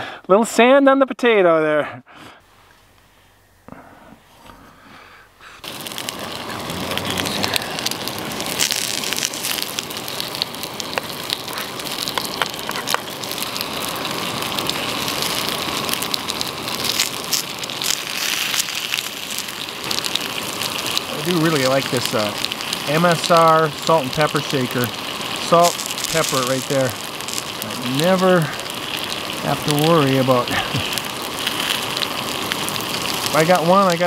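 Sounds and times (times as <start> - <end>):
food sizzling in a frying pan: 5.6 - 34.0.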